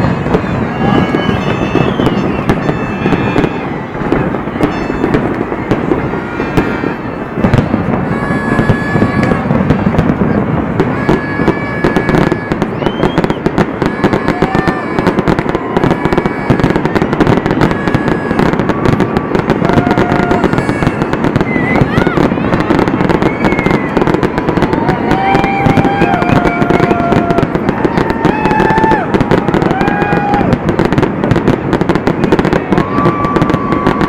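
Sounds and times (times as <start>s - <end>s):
fireworks bangs and crackling: 0.0s - 34.0s
high firework whistles: 0.0s - 34.0s.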